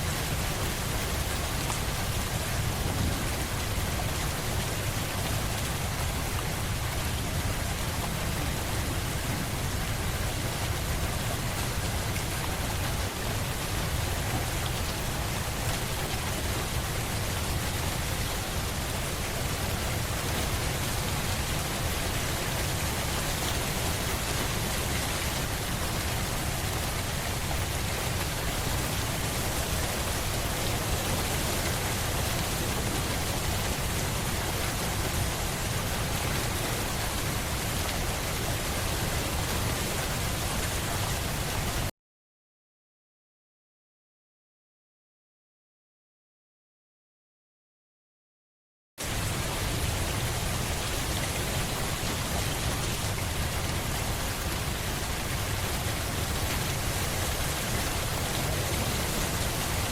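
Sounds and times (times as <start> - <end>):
heavy rain falling: 0.0 - 41.9, 49.0 - 59.9.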